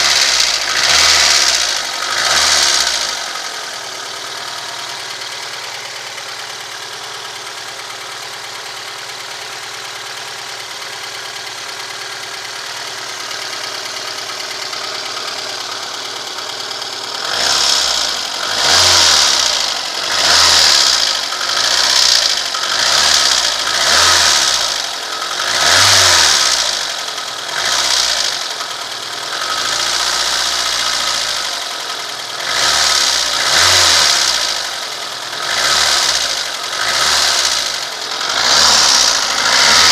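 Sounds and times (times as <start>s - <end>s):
car engine running and revving: 0.0s - 39.9s.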